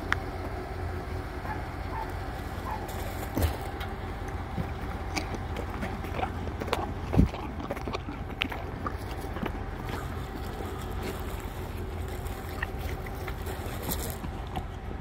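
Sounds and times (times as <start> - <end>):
horse chewing an apple: 0.0 - 15.0.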